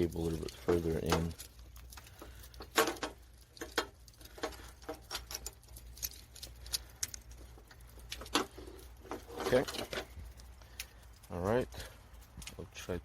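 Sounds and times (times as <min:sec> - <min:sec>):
clicks and taps of metal parts: 0:00.2 - 0:11.3.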